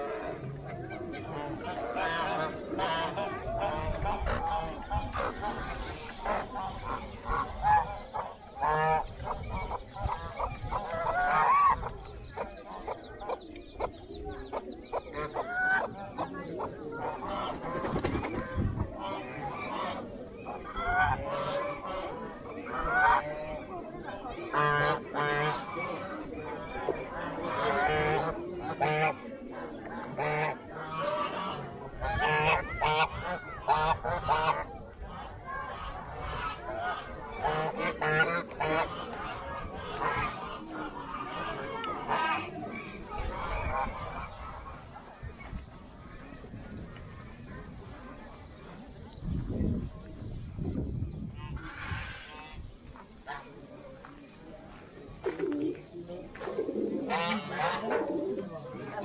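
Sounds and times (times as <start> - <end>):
flock of birds honking: 0.0 - 48.8, 51.2 - 59.0.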